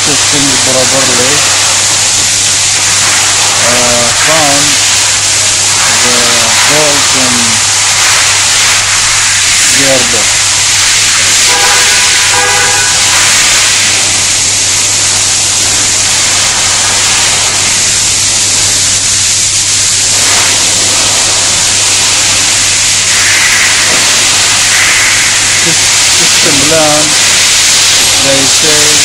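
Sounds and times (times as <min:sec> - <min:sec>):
loud steady hiss: 0:00.0 - 0:29.0.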